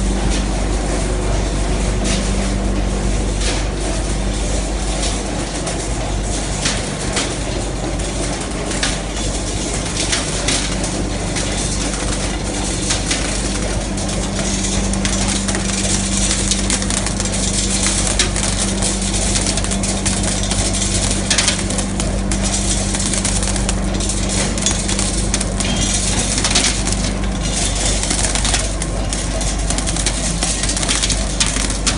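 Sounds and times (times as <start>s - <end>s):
machine motor hum: 0.0s - 31.9s.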